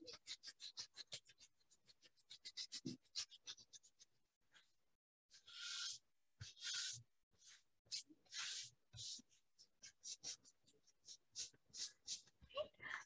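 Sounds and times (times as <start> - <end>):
scratchy rubbing on paper: 0.0 - 4.7, 5.3 - 12.5.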